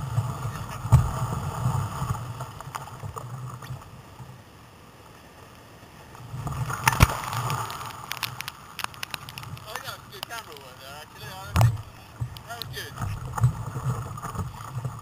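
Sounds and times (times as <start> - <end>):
surf washing over kayak: 0.0 - 15.0.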